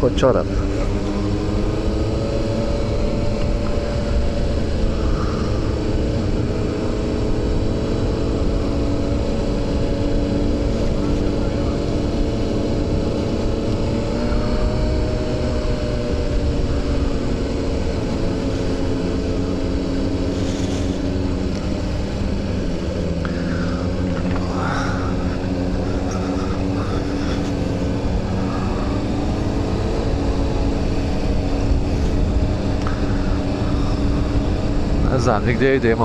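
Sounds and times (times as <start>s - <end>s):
motorcycle engine running: 0.0s - 36.0s
wind rumbling on microphone: 0.0s - 36.0s.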